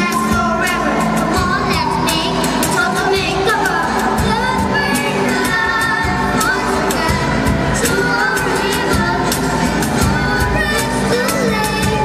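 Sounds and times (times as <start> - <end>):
cajon beat: 0.0 - 12.0
girl singing into a microphone: 0.0 - 12.0
strummed acoustic guitars: 0.0 - 12.0.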